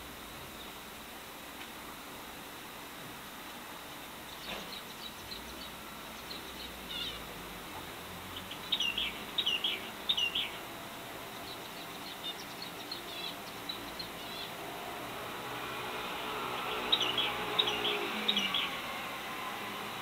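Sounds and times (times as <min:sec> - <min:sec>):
birds chirping: 0:03.8 - 0:20.0.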